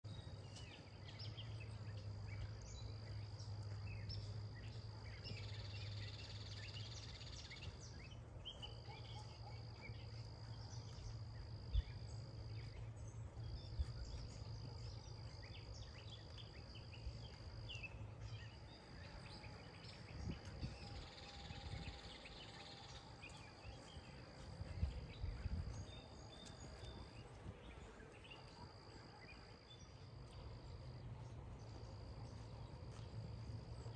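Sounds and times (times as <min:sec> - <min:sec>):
low steady hum: 0:00.0 - 0:33.9
songbirds chirping: 0:00.0 - 0:33.9.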